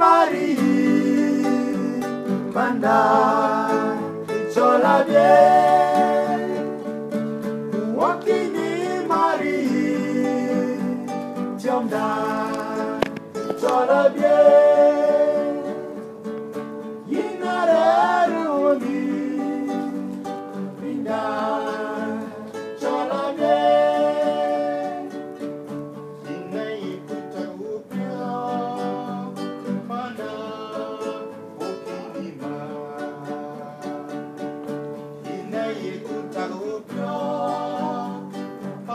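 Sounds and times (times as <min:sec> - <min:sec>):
man singing: 0:00.0 - 0:06.9, 0:07.7 - 0:16.1, 0:17.0 - 0:25.4, 0:26.2 - 0:34.5, 0:35.2 - 0:38.9
acoustic guitar playing: 0:00.0 - 0:38.9.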